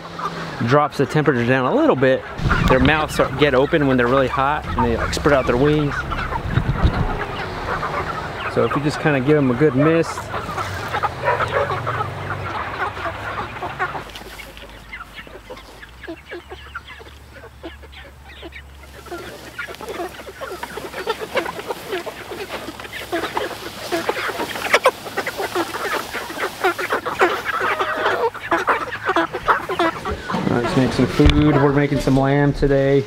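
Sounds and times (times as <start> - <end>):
chickens clucking and squawking: 0.0 - 33.0.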